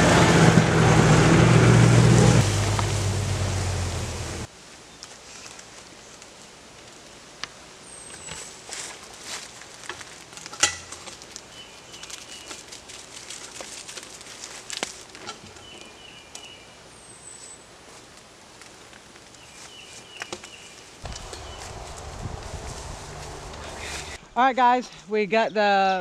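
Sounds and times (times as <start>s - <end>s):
leaf rustling: 2.0s - 16.4s, 17.2s - 24.4s.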